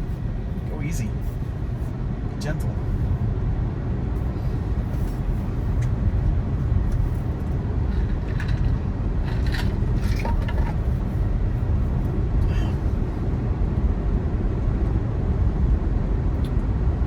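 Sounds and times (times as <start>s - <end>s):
road and tyre rumble in car: 0.0s - 17.0s.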